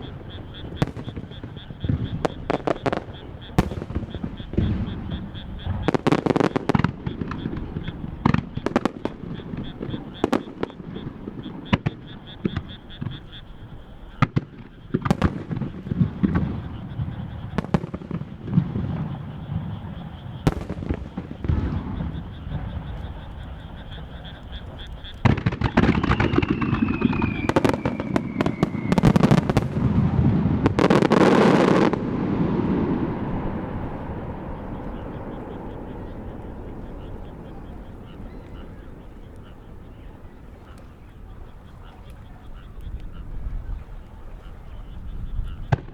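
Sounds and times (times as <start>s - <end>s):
falling firework whistle: 0.0s - 13.3s, 14.2s - 42.1s
fireworks bursting: 0.0s - 45.9s.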